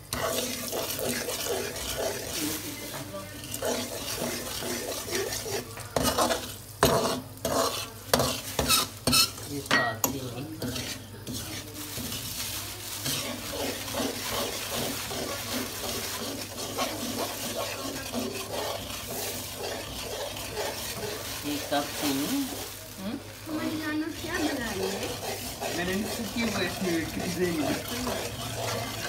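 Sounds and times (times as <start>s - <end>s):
steel spoon scraping metal pan: 0.0s - 22.9s, 23.5s - 29.0s
light sizzle: 0.0s - 29.0s.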